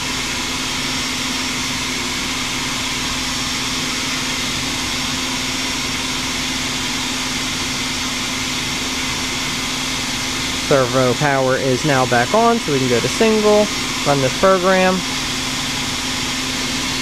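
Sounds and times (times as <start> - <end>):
machine cooling fans humming: 0.0 - 17.0.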